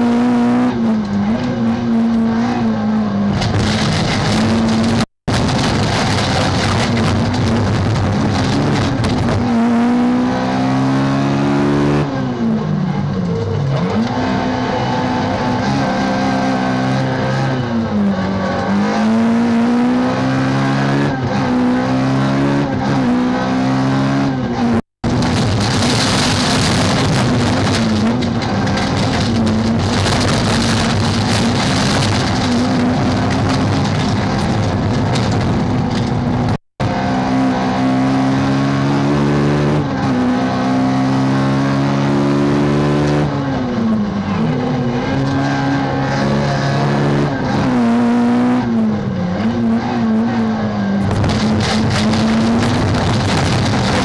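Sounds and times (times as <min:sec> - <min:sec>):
race car engine revving: 0:00.0 - 0:54.0
tyre and road noise: 0:00.0 - 0:54.0.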